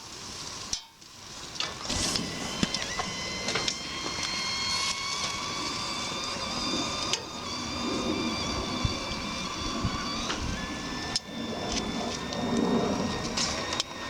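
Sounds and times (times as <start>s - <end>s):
chile pods sizzling and whistling: 0.0s - 14.0s.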